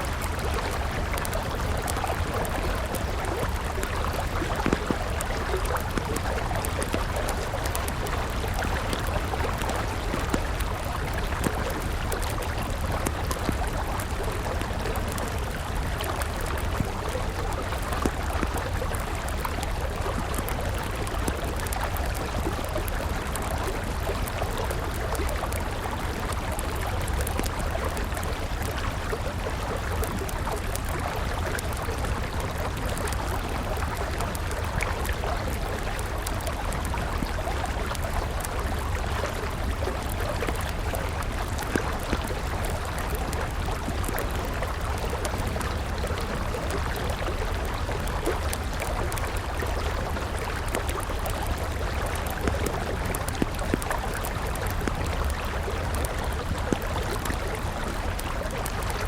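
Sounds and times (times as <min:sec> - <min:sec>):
campfire crackling: 0:00.0 - 0:59.0
river flowing: 0:00.0 - 0:59.0.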